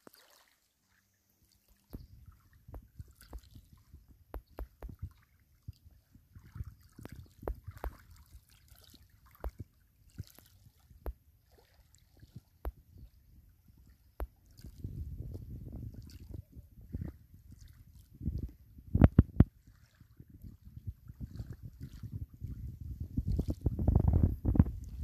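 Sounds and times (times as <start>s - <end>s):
water lapping on pebbles: 0.0s - 25.0s.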